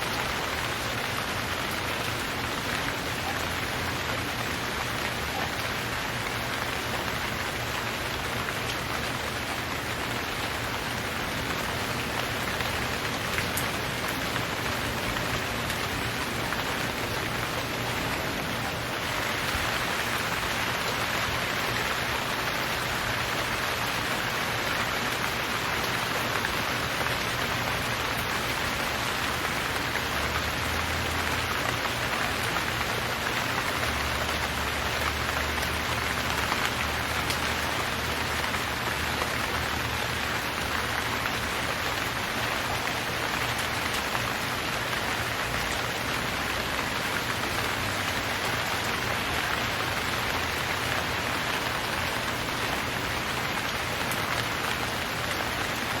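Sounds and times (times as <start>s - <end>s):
rain on leaves and ground: 0.0s - 56.0s.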